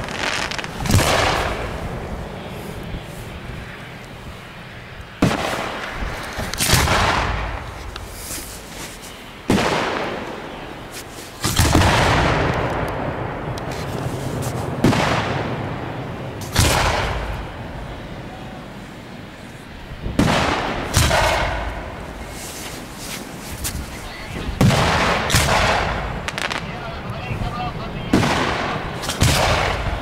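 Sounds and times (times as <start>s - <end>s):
firework shells booming: 0.0s - 4.5s, 5.1s - 30.0s.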